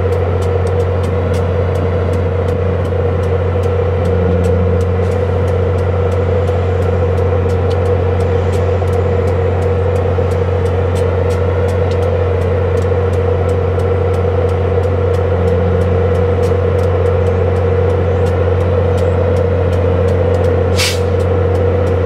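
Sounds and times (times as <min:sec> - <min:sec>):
diesel locomotive engine drone: 0:00.0 - 0:22.0
faint rapid ticking: 0:00.0 - 0:22.0.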